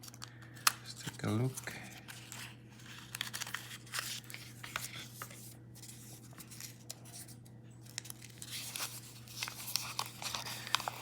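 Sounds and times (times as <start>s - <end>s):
paper packaging rustling: 0.0s - 11.0s.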